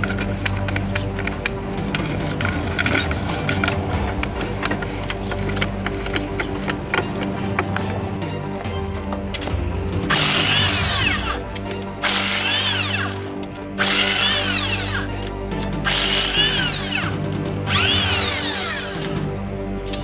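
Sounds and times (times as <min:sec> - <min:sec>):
impact wrench whining: 0:00.0 - 0:07.7, 0:09.3 - 0:19.2
background music: 0:00.0 - 0:20.0.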